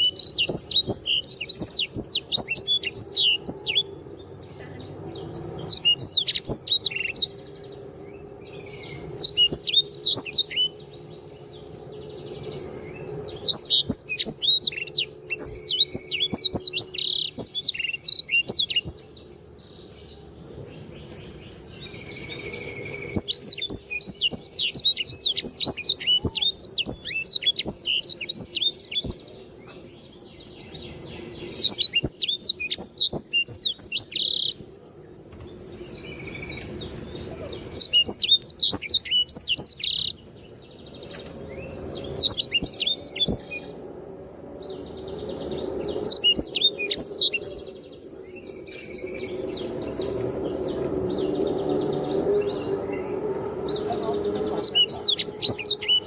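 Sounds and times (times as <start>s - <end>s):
songbird twittering: 0.0s - 43.9s, 44.6s - 56.0s.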